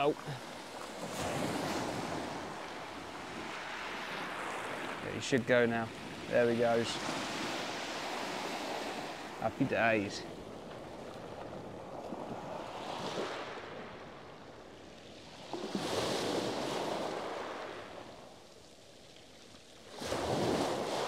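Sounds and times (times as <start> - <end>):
waves washing over pebbles: 0.0 - 13.7, 15.2 - 21.0.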